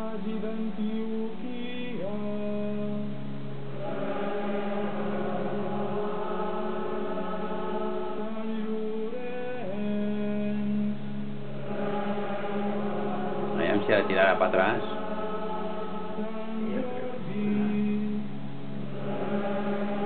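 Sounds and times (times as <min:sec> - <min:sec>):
church choir chanting: 0:03.6 - 0:20.0.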